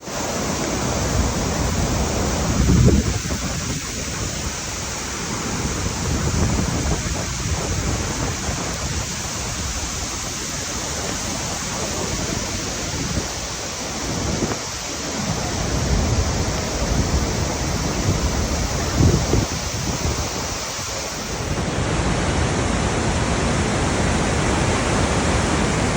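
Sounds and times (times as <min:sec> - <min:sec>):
waterfall crashing: 0:00.0 - 0:25.9.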